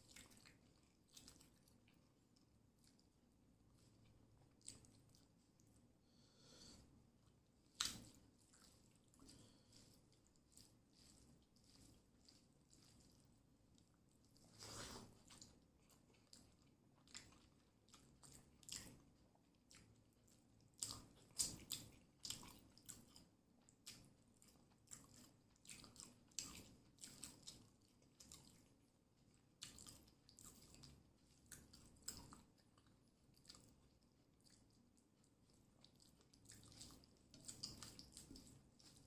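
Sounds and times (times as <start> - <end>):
person chewing food: 0.0 - 39.0.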